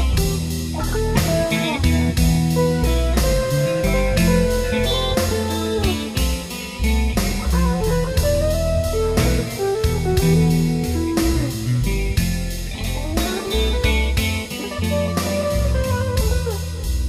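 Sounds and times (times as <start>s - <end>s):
rock song with guitar melody: 0.0s - 17.0s.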